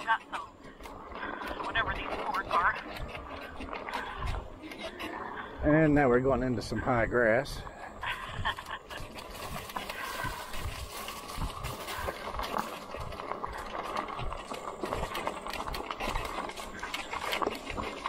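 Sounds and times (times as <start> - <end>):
bike rattling: 0.0 - 18.0
tyres rolling on trail: 0.0 - 18.0.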